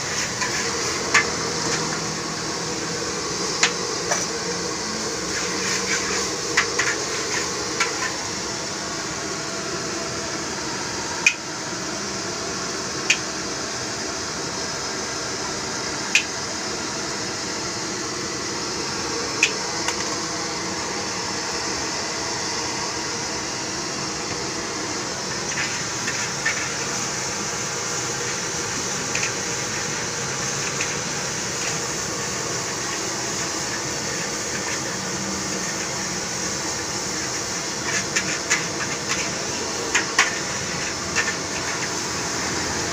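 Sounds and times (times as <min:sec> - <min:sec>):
gas flame and frying rice hiss: 0:00.0 - 0:42.9.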